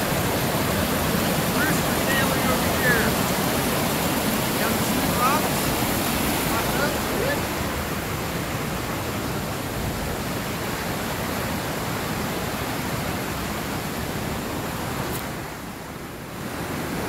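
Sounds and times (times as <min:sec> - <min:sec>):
creek rushing over rapids: 0:00.0 - 0:17.0.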